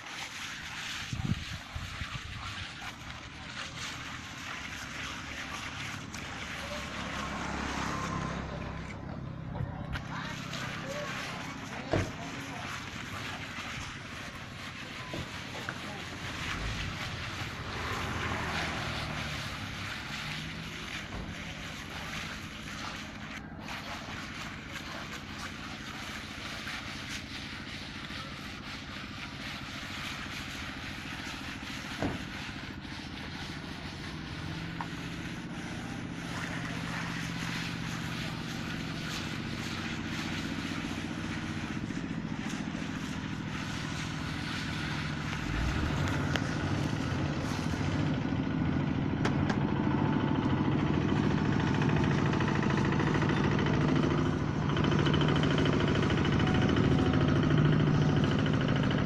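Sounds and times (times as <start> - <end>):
engine humming: 2.1 - 59.0.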